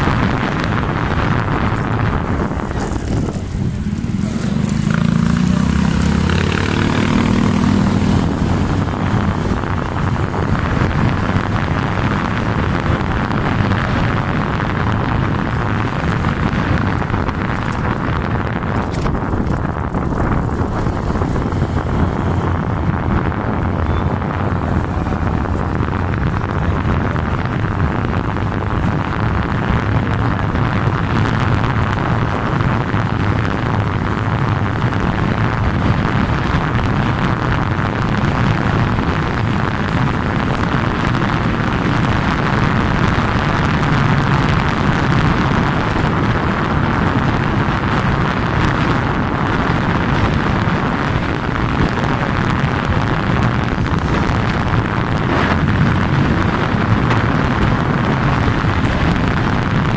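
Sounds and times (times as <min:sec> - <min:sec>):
vehicle tyres on road: 0:00.0 - 0:59.9
wind rushing over microphone: 0:00.0 - 0:59.9.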